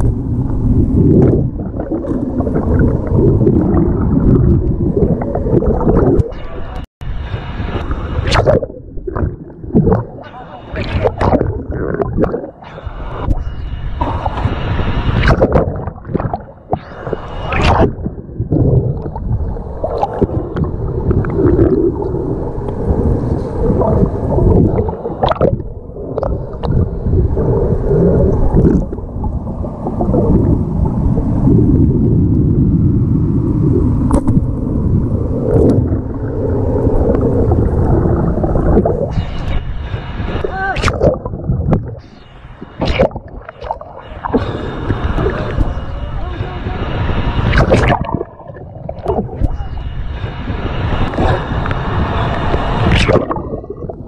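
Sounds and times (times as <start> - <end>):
muffled underwater water rumble: 0.0 - 54.0.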